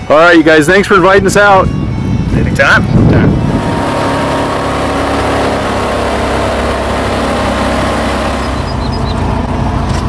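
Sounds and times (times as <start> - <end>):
boat engine running: 1.9 - 10.0.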